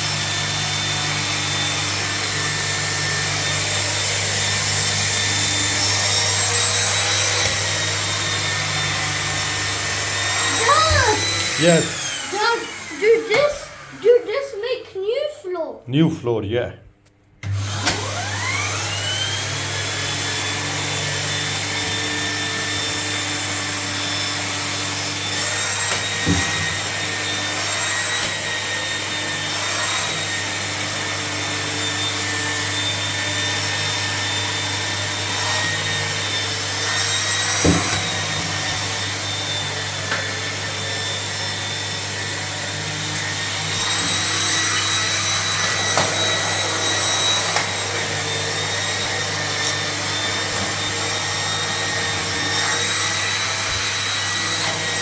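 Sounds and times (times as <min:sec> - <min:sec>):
vacuum cleaner motor whining: 0:00.0 - 0:15.2, 0:17.4 - 0:55.0.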